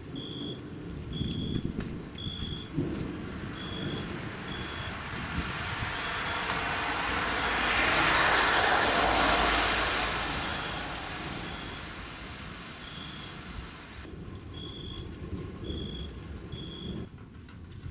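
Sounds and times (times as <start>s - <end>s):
rain hissing: 0.0s - 17.1s.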